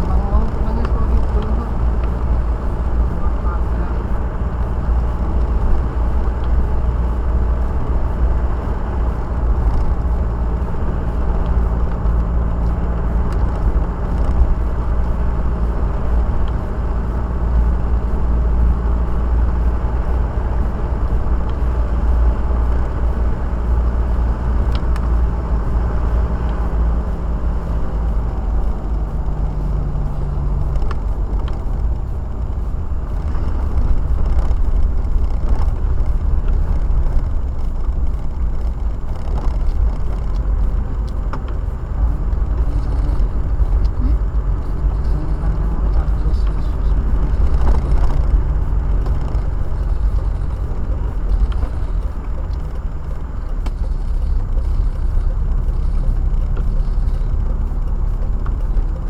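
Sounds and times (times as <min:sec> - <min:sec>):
car engine and road noise: 0:00.0 - 0:59.0
faint hum: 0:00.0 - 0:59.0
light ticks: 0:00.0 - 0:59.0.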